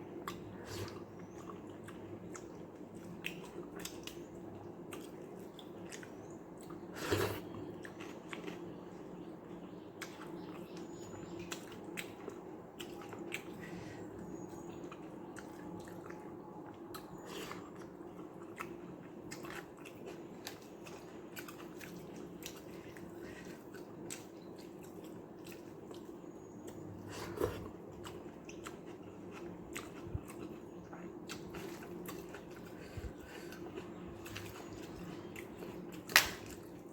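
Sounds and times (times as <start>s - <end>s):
steady low hum: 0.0s - 36.9s
person chewing wetly: 0.1s - 9.2s, 10.0s - 36.9s.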